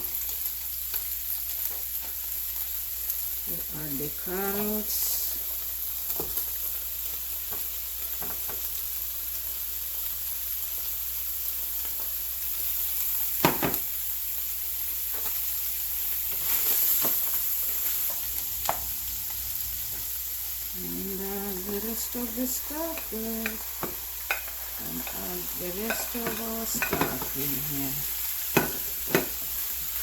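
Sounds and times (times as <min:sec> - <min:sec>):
vegetables and meat sizzling: 0:00.0 - 0:30.0.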